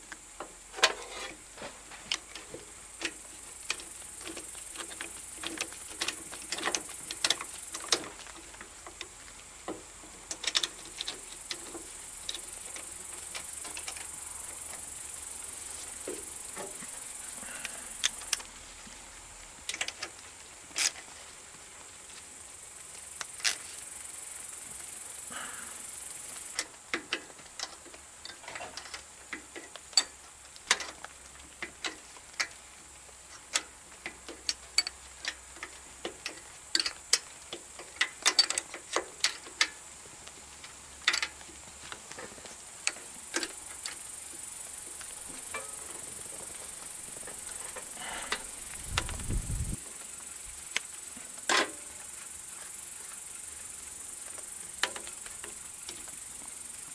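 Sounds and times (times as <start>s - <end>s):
faint hiss: 0.0s - 56.9s.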